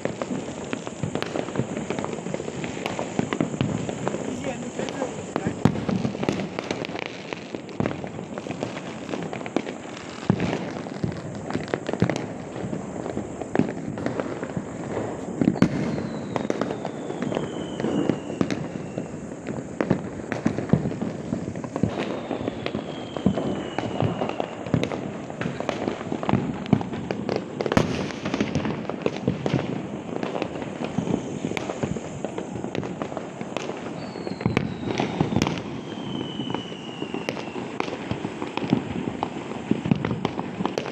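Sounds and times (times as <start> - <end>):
firecrackers popping and banging: 0.0 - 40.9.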